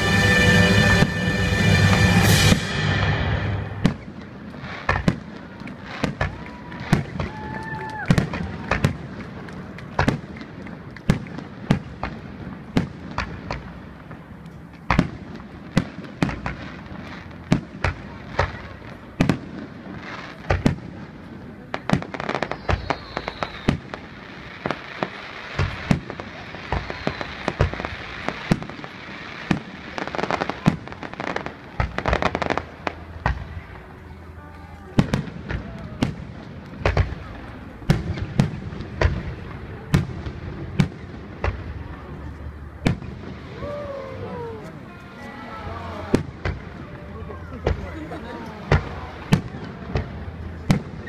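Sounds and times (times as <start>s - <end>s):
fireworks crackling: 0.0s - 51.0s.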